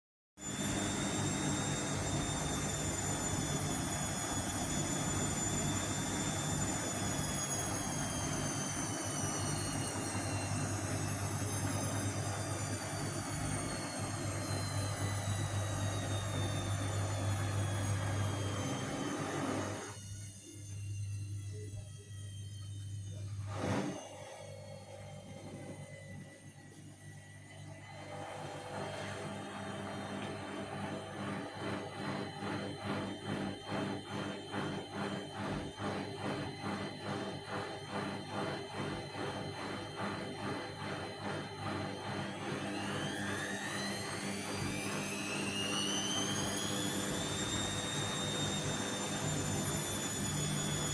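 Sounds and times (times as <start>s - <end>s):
washing machine spinning: 0.4s - 50.9s.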